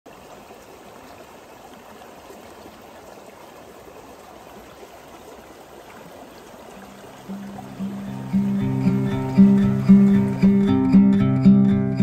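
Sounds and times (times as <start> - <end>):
creek flowing over pebbles: 0.1 - 12.0.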